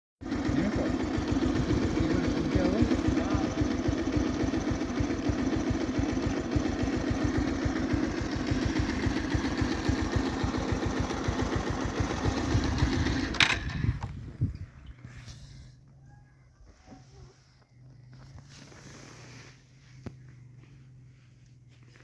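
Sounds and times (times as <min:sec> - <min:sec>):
small engine idling: 0:00.2 - 0:22.0.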